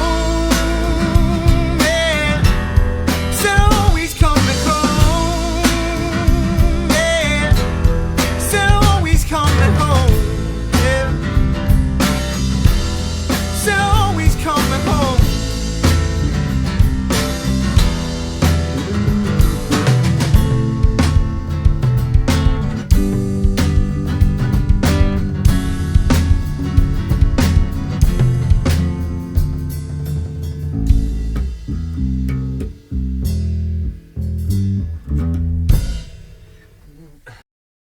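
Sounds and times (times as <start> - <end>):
drum kit hits: 0.0 - 34.8, 35.6 - 36.7
rock band music: 0.0 - 36.7
bass guitar: 0.0 - 37.4
guitar notes: 0.0 - 37.4.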